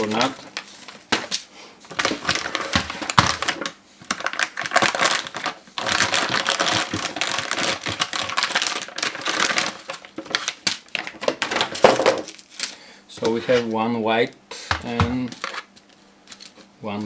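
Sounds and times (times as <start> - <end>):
plastic bags crackling and rustling: 0.0 - 13.8, 15.1 - 16.8.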